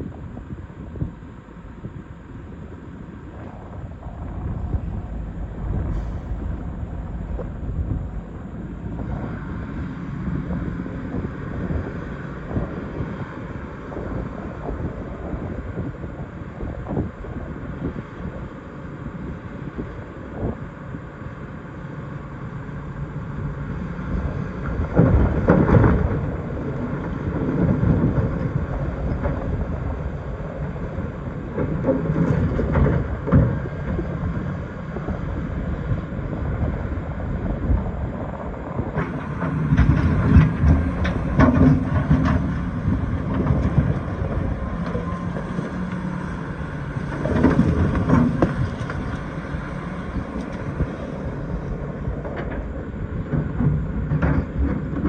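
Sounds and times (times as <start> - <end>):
excavator engine surging: 0.0 - 55.0.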